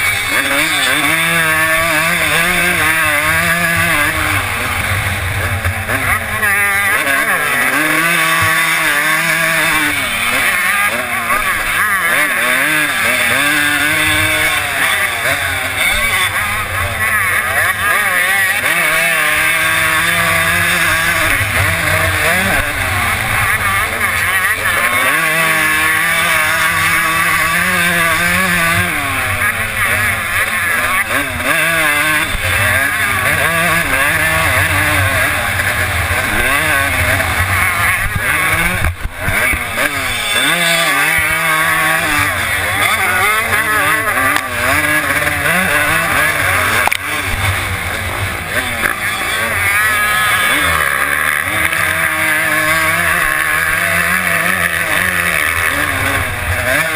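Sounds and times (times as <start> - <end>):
motocross engine revving: 0.0 - 56.9.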